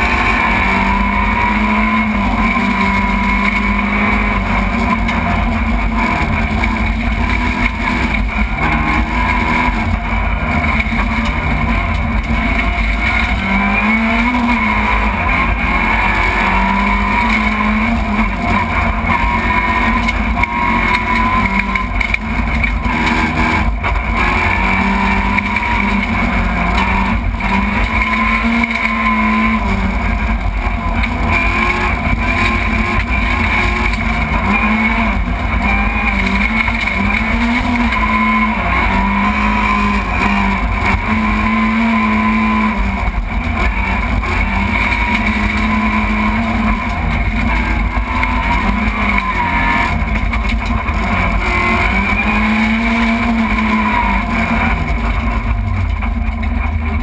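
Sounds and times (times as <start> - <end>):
rally car engine revving: 0.0 - 57.0
road and tyre noise: 0.0 - 57.0.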